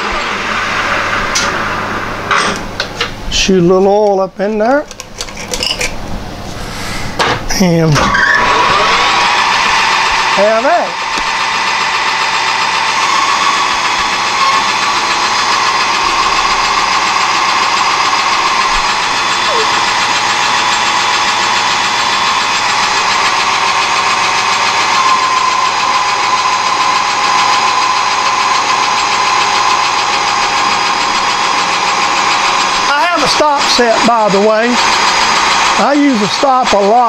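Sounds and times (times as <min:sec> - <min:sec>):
cutting tool whine: 0:00.0 - 0:02.9, 0:08.0 - 0:37.0
metal lathe running: 0:00.0 - 0:03.2, 0:07.9 - 0:37.0.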